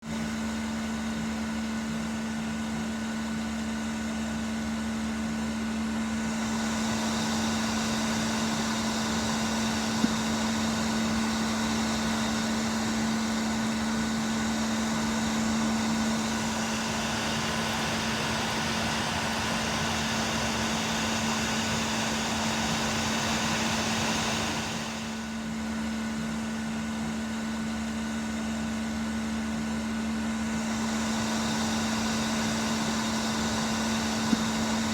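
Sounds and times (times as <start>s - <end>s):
blower motor hum: 0.0s - 34.9s.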